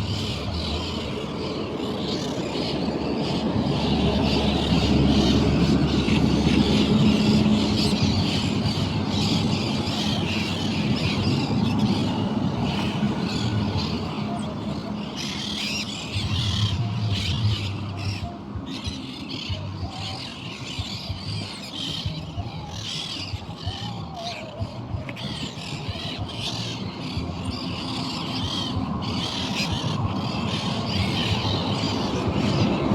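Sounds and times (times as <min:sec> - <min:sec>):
birds squawking: 0:00.0 - 0:32.9.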